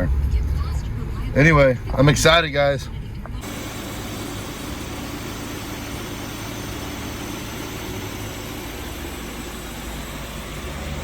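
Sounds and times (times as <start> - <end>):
air conditioning blowing: 0.0 - 11.0
car engine running: 0.0 - 11.0.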